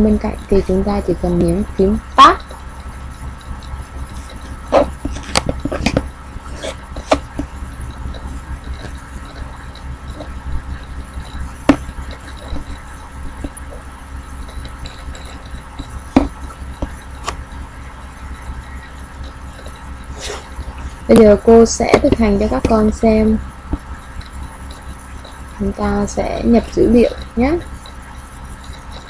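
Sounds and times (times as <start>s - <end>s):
low steady hum: 0.0s - 29.0s
sharp clicks and knocks: 1.2s - 22.9s, 23.6s - 26.0s.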